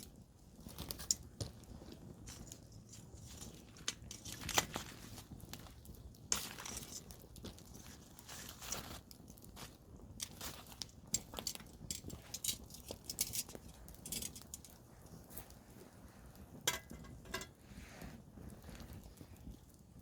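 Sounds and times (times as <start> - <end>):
campfire crackling: 0.0 - 20.0
fire hissing: 0.0 - 20.0.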